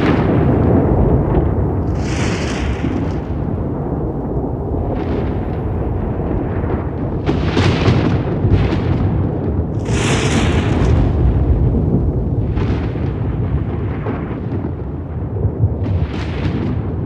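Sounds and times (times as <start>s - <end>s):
crackling thunder peals: 0.0s - 17.0s
thunder rumbling: 0.0s - 17.0s.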